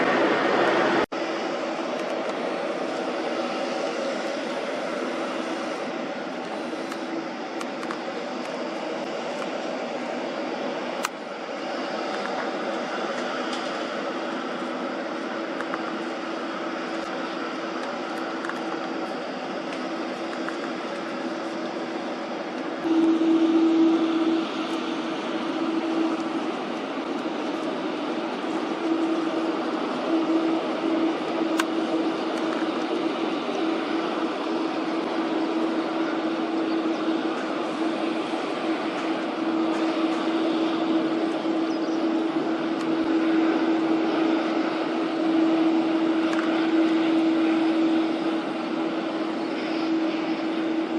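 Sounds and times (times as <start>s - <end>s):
jet engines humming: 0.0s - 50.9s.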